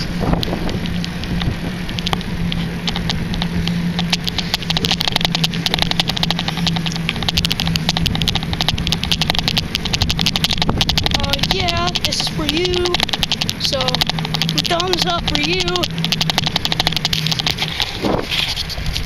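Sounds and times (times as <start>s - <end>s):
bicycle ticking and rattling: 0.0s - 19.0s
low hum: 0.0s - 19.0s.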